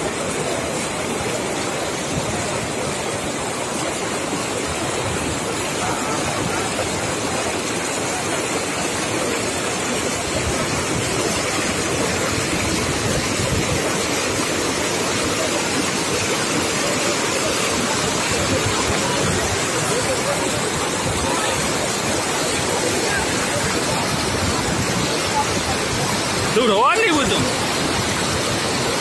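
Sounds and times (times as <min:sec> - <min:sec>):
water rushing over a weir: 0:00.0 - 0:29.0.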